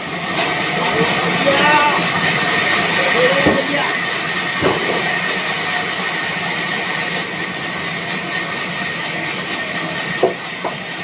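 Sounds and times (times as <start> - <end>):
high machine whine: 0.0 - 11.0
sawmill machinery running: 0.0 - 11.0.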